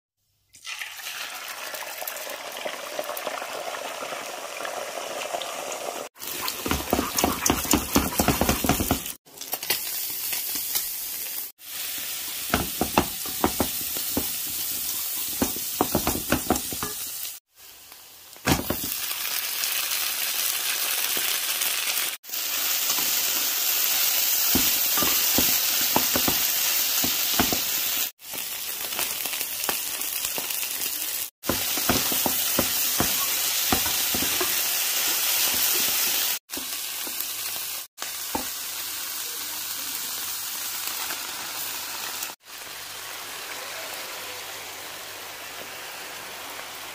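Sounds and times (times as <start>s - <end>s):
food sizzling in hot oil: 0.3s - 46.9s.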